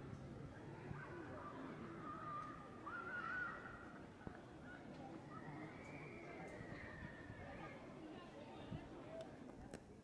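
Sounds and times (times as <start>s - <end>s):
low outdoor background noise: 0.0s - 10.0s.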